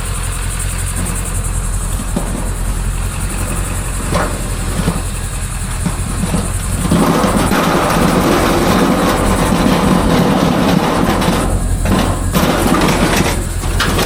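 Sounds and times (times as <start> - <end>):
low engine hum: 0.0 - 14.0
vehicle rattling rumble: 0.0 - 14.0.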